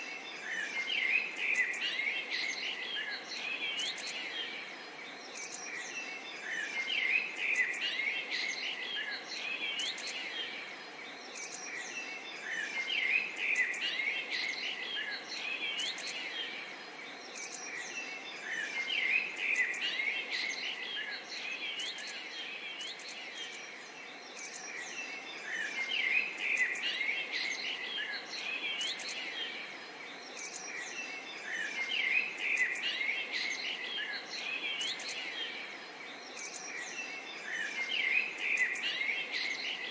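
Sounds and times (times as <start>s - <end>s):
small birds chirping: 0.0s - 39.9s
soft outdoor hiss: 0.0s - 39.9s.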